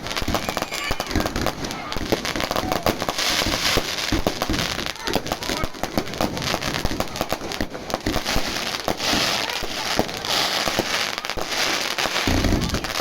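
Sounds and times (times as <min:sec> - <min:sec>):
fireworks crackling and hiss: 0:00.0 - 0:13.0
fireworks cracks and pops: 0:00.0 - 0:13.0.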